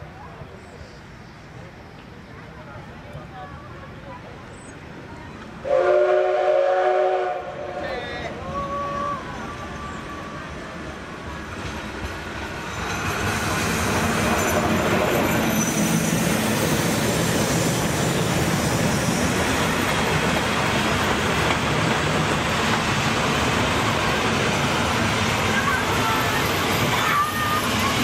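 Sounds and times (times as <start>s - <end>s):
train wheels rumbling on rails: 0.2s - 28.0s.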